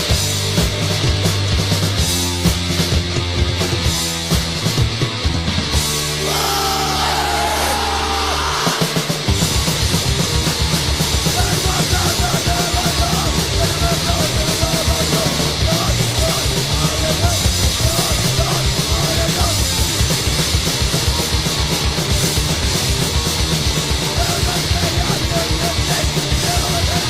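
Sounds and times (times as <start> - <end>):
hardcore punk band music: 0.0 - 27.0
pounding drums: 0.0 - 27.0.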